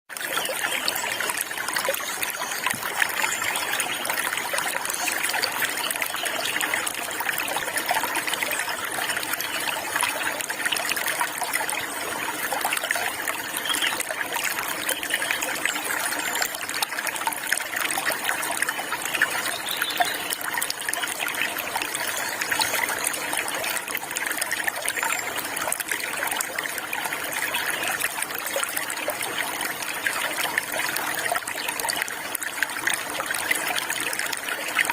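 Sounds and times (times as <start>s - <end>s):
stream running over stones: 0.1s - 34.9s.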